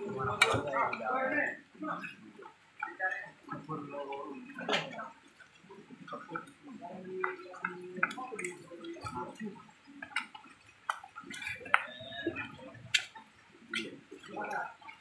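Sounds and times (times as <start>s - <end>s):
hands squelching wet dough: 0.0s - 15.0s.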